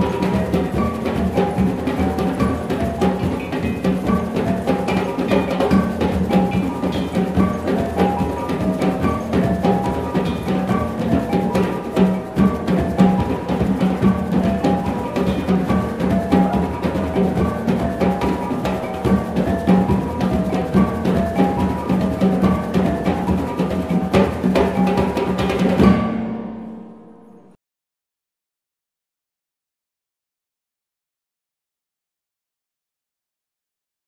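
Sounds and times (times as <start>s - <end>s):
drum strokes: 0.0s - 27.5s.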